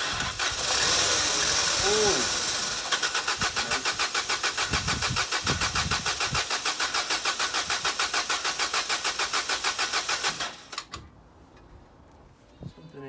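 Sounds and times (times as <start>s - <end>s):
car engine cranking: 0.0s - 11.0s.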